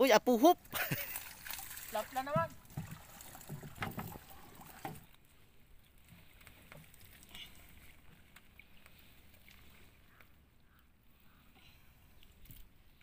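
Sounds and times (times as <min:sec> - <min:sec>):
faint water sloshing: 0:00.4 - 0:13.0.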